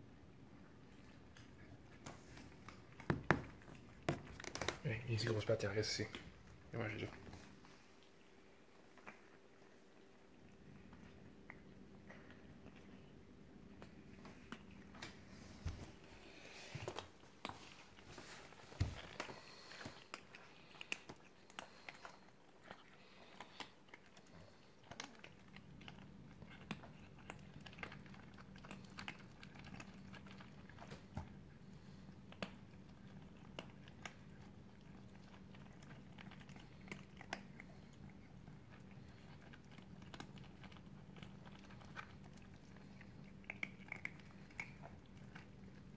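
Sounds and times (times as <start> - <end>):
faint low hum: 0.0 - 45.9
cats crunching food: 0.1 - 45.9.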